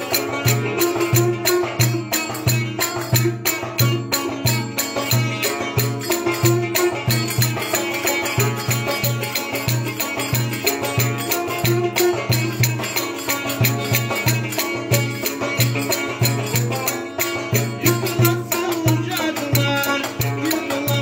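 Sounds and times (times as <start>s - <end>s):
rattling percussion clicking: 0.0s - 21.0s.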